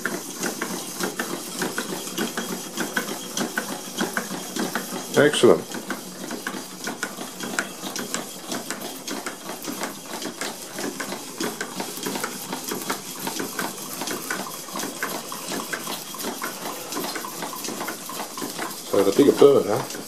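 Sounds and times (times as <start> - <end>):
model steam engines clicking: 0.0 - 20.0.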